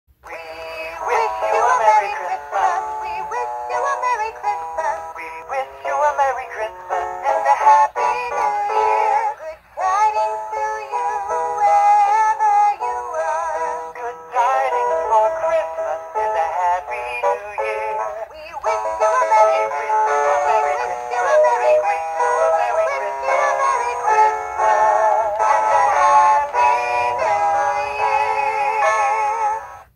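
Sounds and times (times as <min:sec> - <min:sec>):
toy singing through small speaker: 0:00.2 - 0:29.9.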